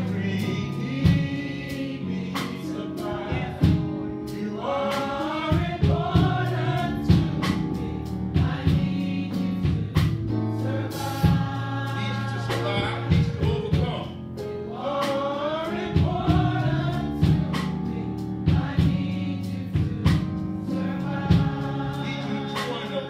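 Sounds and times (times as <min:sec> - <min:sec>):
choir singing gospel music: 0:00.0 - 0:23.0
steady drum beat: 0:00.0 - 0:23.0.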